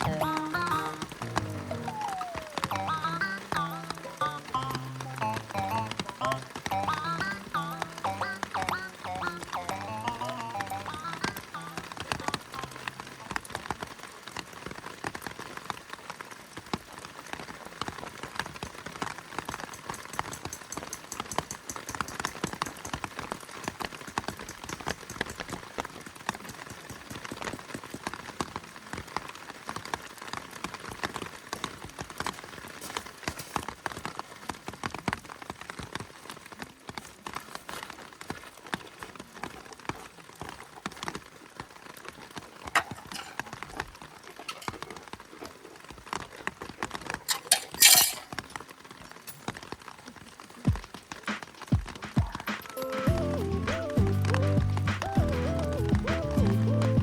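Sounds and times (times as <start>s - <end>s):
rain pattering on a tarp: 0.0s - 57.0s.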